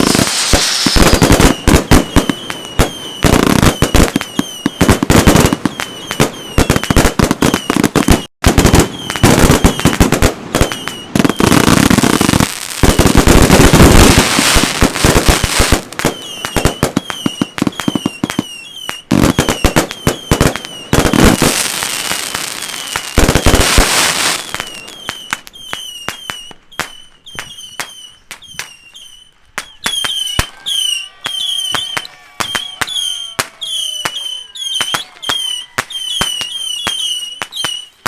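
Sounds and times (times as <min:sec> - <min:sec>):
firework whistling: 0:00.0 - 0:38.0
fireworks banging and crackling: 0:00.0 - 0:38.0.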